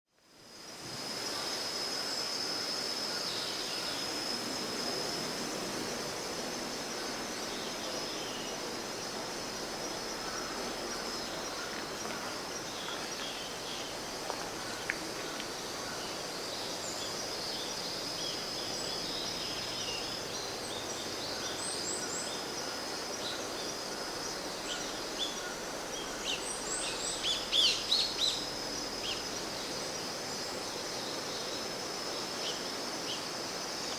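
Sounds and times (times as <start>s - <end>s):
high-pitched insect trill: 0.2s - 33.9s.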